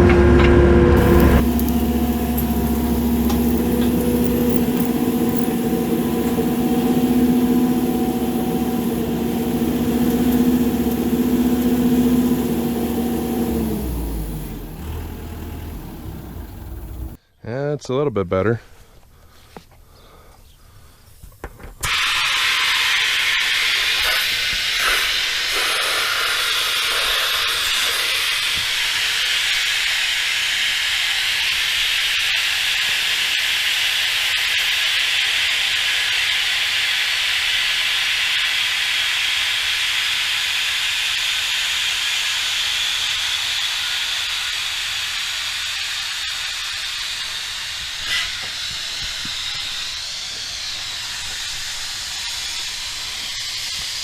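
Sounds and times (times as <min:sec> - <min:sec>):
compressed air hissing into tire: 0:01.0 - 0:17.2, 0:21.8 - 0:54.0.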